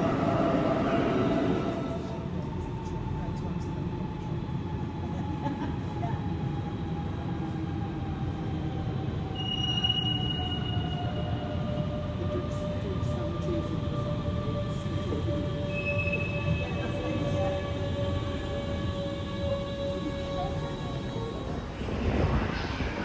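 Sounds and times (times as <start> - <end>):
train rumbling slowly: 0.0 - 9.4, 10.4 - 23.0.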